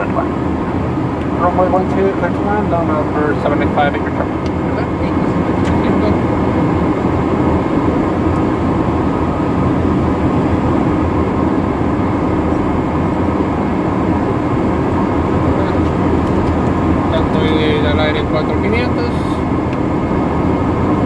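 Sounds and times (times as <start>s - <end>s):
jet cockpit airflow and engine noise: 0.0s - 21.0s.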